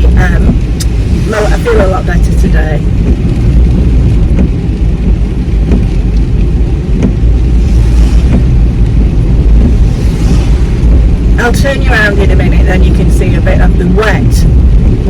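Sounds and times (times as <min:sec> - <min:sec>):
car cabin road and engine rumble: 0:00.0 - 0:15.0
heavy rain: 0:00.0 - 0:15.0.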